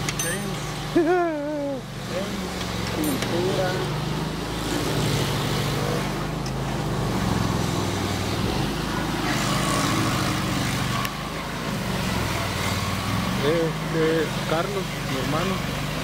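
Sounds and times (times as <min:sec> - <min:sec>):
stump grinder engine droning: 0:00.0 - 0:16.0.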